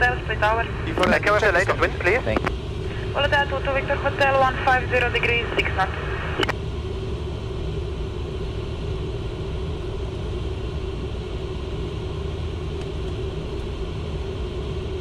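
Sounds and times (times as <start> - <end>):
airflow and jet engine rumble: 0.0 - 15.0
steady hum: 0.0 - 15.0.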